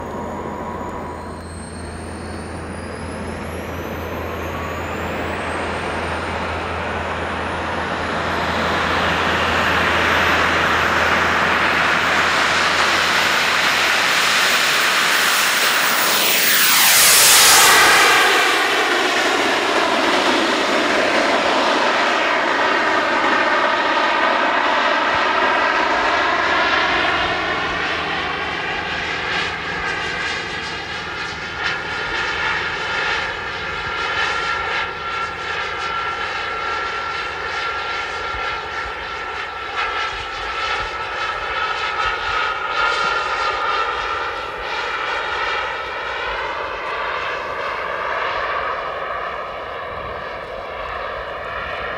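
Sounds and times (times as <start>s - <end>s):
model jet engines whining: 0.0s - 51.9s.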